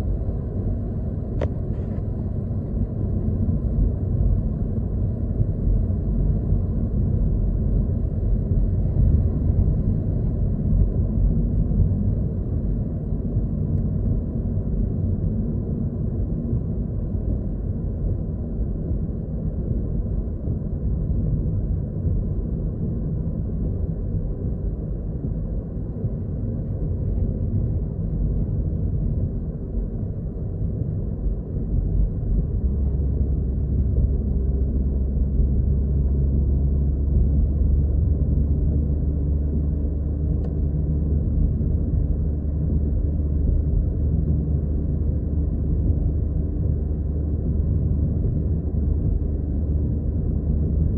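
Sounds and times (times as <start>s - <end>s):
road and engine rumble: 0.0s - 50.9s
steady low hum: 0.0s - 50.9s.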